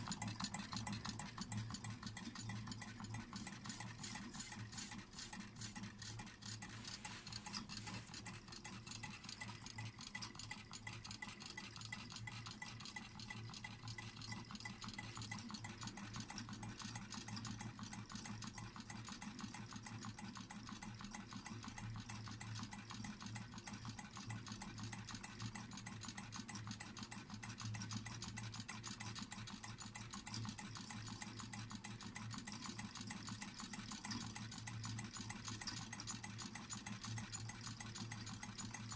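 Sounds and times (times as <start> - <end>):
engine ticking rattle: 0.0 - 38.9.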